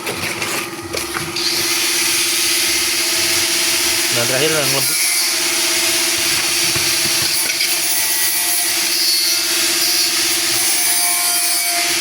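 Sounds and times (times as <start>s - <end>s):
grinding machine hissing: 1.3s - 12.0s.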